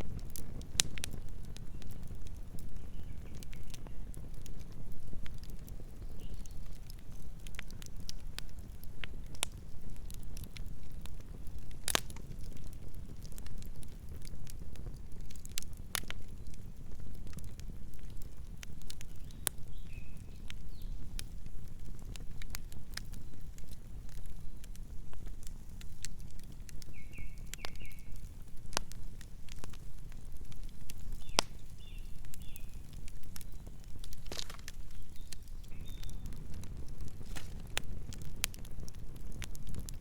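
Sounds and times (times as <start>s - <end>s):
campfire crackling and popping: 0.0s - 40.0s
low rumble of flames: 0.0s - 40.0s.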